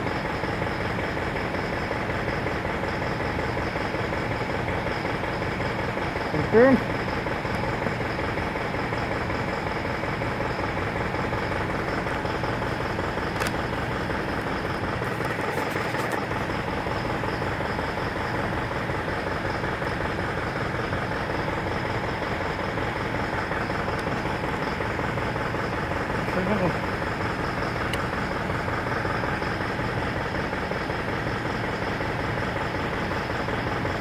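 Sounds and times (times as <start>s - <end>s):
diesel engine idling with knocking: 0.0s - 34.0s.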